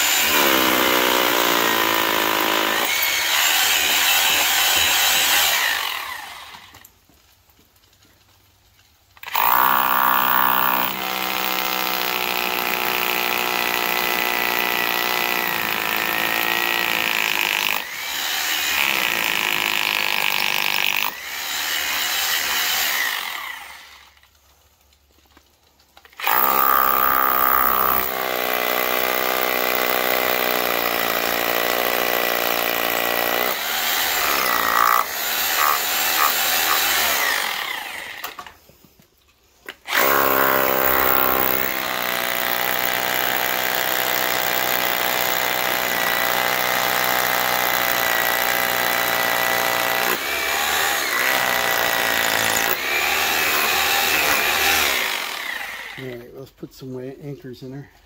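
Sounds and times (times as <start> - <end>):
rotary hammer drilling: 0.0 - 6.8, 9.2 - 24.2, 26.1 - 38.5, 39.8 - 56.2.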